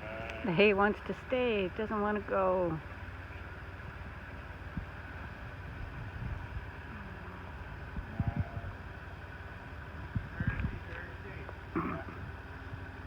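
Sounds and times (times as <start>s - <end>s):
bale elevator mechanical rumble: 0.0s - 13.0s.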